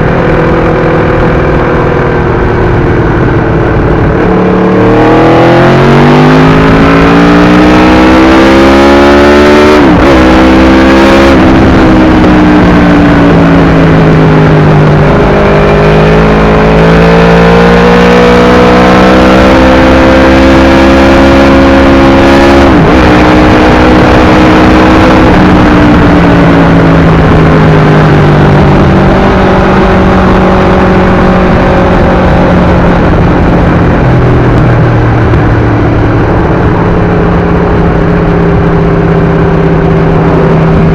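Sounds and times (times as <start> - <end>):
loud motorcycle engine revving: 0.0 - 40.9.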